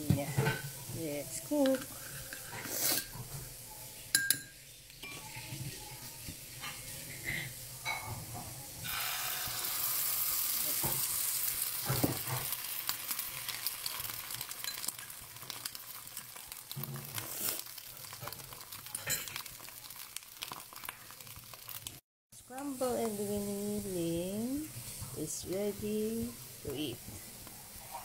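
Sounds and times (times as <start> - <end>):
egg sizzling in hot oil: 0.0 - 28.0.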